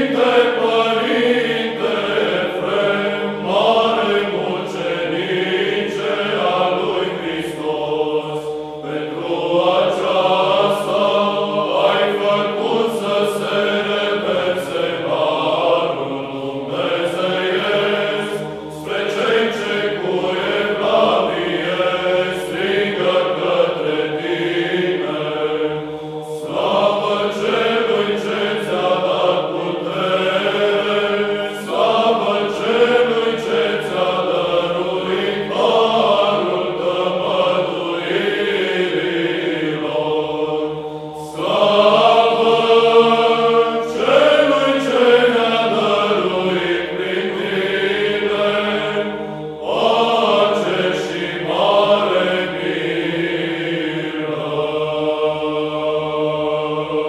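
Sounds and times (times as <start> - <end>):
voices chanting melody: 0.0 - 57.0.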